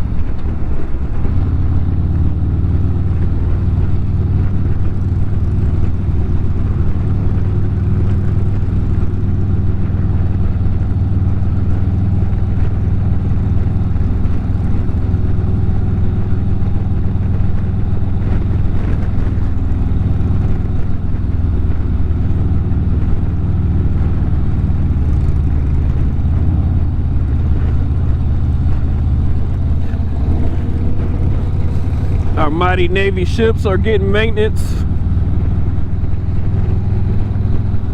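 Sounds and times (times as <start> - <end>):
motorcycle engine cruising: 1.0 - 37.9.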